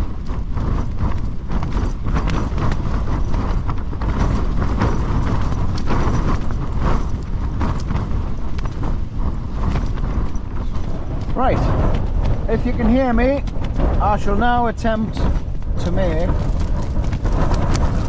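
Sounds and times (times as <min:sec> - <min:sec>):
strong wind gusts: 0:00.0 - 0:18.0
tent fabric flapping: 0:00.0 - 0:18.0.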